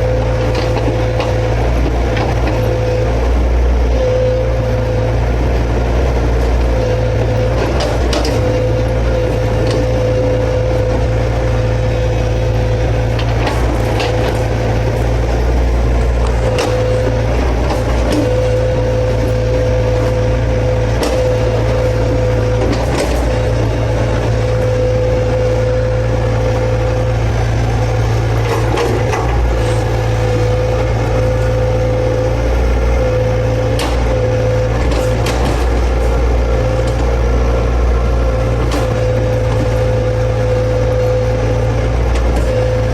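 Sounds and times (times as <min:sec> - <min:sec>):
excavator engine drone: 0:00.0 - 0:42.9.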